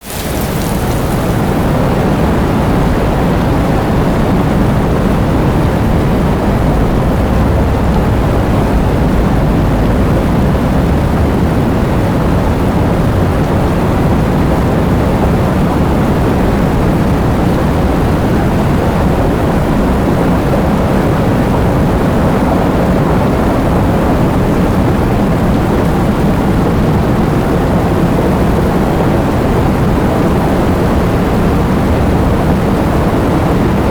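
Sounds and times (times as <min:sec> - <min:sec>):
heavy rain: 0:00.0 - 0:33.9
wind: 0:00.0 - 0:33.9.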